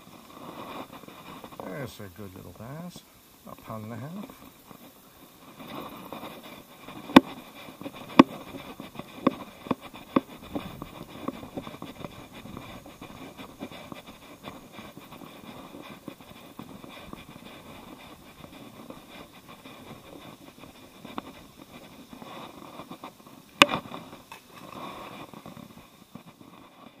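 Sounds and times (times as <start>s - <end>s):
footsteps on grass: 0.0s - 2.9s, 3.5s - 27.0s.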